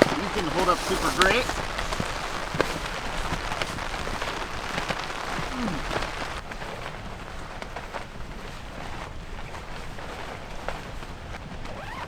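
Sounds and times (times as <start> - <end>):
raindrops ticking: 0.0 - 10.7
rain falling: 0.0 - 12.0.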